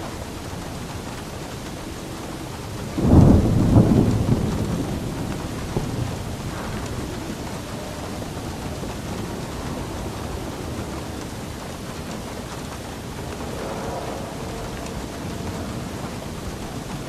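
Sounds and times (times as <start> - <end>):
distant thunder rumble: 0.0 - 17.0
heavy rainfall: 0.0 - 17.0.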